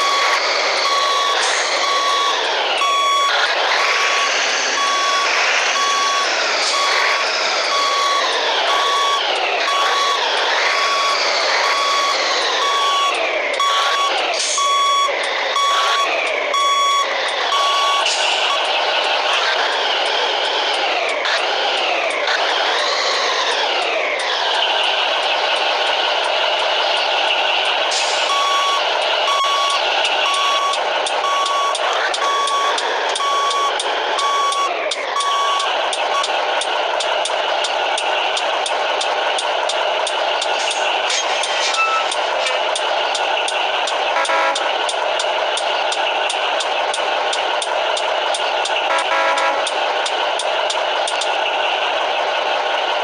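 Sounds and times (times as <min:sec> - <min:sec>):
reversing alarm beeping: 0:00.0 - 0:36.7, 0:37.6 - 0:46.7, 0:47.3 - 0:51.4
truck engine: 0:00.0 - 0:53.0.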